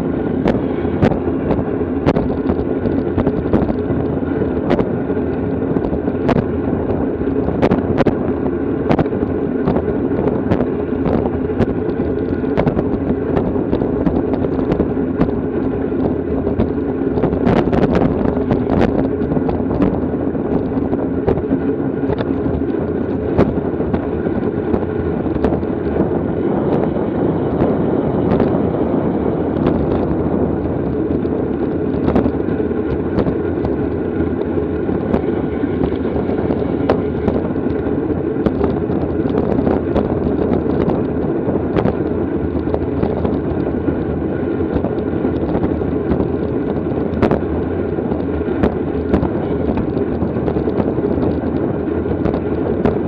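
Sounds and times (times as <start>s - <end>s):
low hum of moving bike: 0.0s - 53.0s
wind rushing over microphone: 0.0s - 53.0s
sharp clicks and rattles: 0.3s - 53.0s.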